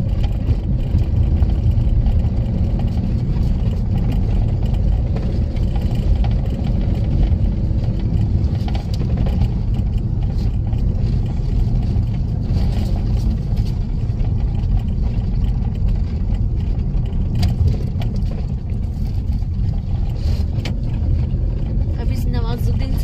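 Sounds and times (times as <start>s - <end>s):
car interior engine and tyre rumble: 0.0s - 23.0s.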